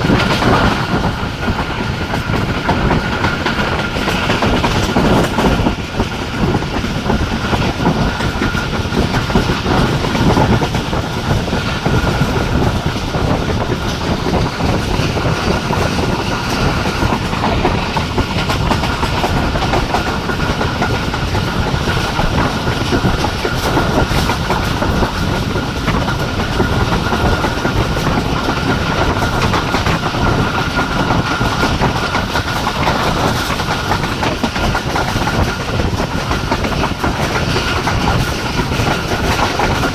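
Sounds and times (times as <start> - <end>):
train rumble: 0.0 - 39.9
wheels clicking over rail joints: 0.0 - 39.9.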